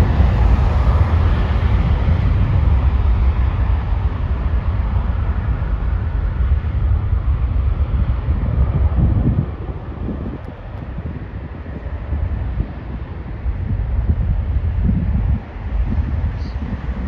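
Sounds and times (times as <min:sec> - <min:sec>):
jet engine rushing: 0:00.0 - 0:13.8
wind rumble on microphone: 0:00.0 - 0:17.0.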